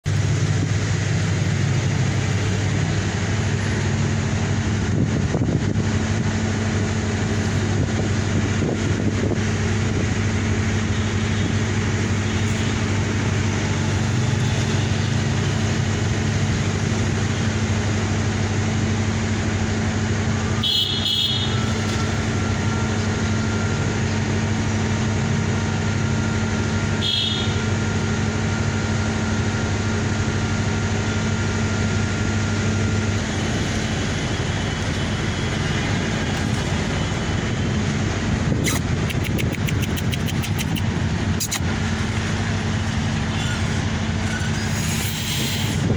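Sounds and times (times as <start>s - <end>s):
low mechanical motor hum: 0.0s - 45.9s
outdoor noise rushing: 0.0s - 45.9s.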